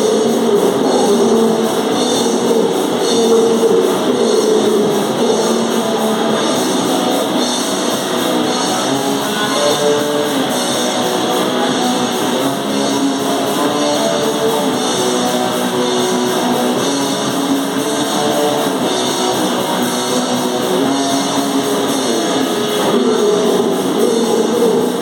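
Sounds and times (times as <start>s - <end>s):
distorted electric guitar: 0.0s - 25.0s
drums: 0.0s - 25.0s.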